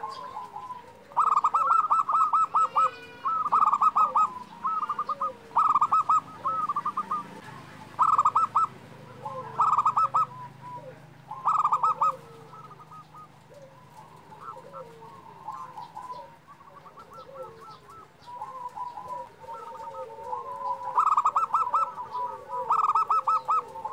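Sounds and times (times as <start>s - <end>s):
dove cooing: 0.0s - 23.9s.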